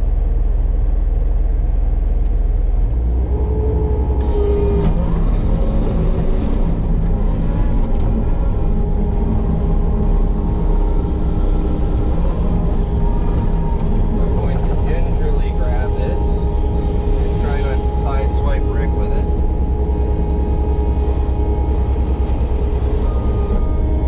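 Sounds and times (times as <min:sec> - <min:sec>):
diesel engine under load: 0:00.0 - 0:24.0
steady pitched tones: 0:03.6 - 0:24.0.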